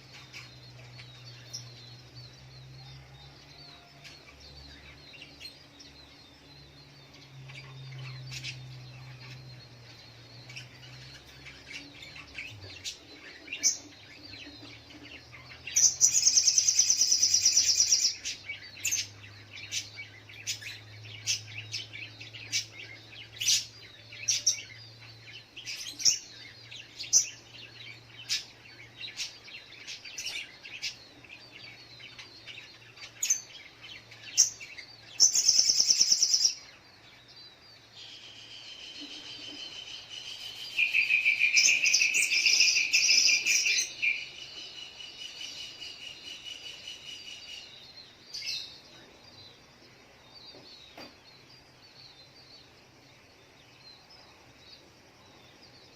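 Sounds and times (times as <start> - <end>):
bird chirping and trilling: 0.0 - 53.0.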